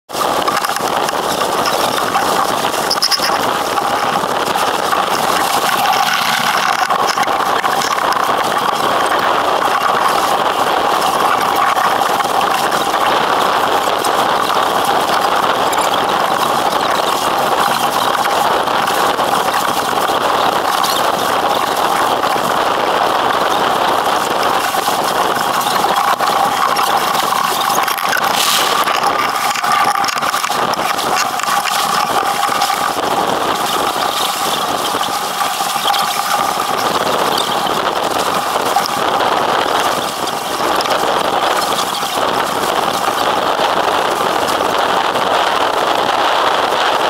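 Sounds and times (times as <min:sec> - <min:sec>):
wind and water rushing along hull: 0:00.1 - 0:47.0.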